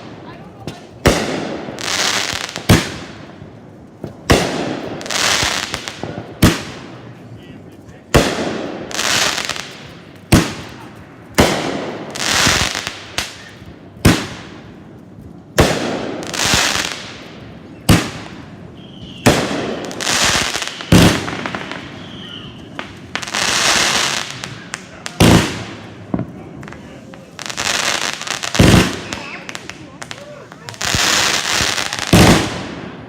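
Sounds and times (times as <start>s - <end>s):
fireworks banging: 0.0s - 33.0s
fireworks crackling hiss: 0.0s - 33.0s.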